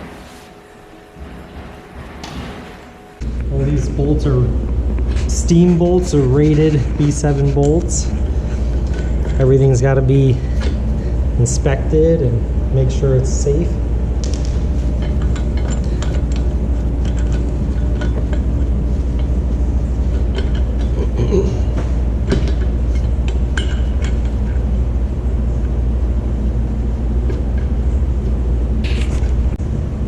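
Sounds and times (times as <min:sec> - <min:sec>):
low machinery hum: 0:00.0 - 0:30.0.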